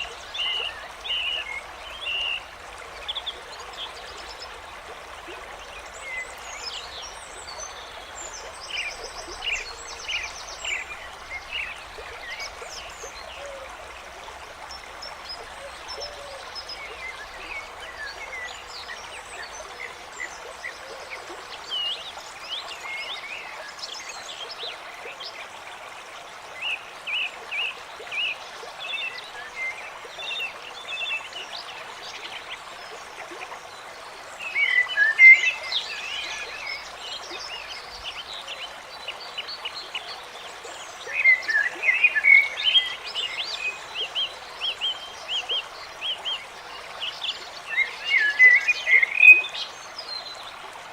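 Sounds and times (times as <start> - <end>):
running water: 0.0 - 50.9.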